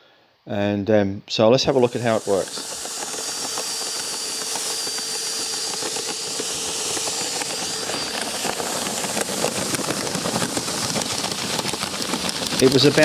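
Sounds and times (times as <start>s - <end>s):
faint steady whine: 0.0s - 13.0s
cordless drill running: 1.6s - 13.0s
grain rattling up a pipe: 1.8s - 13.0s.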